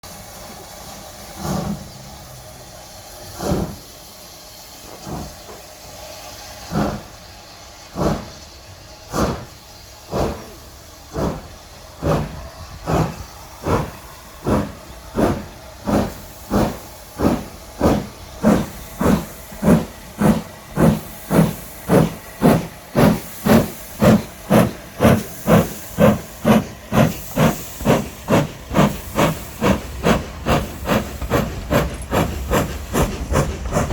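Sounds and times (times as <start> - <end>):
steam hissing: 0.0 - 33.9
steam locomotive chuffing: 0.0 - 33.9.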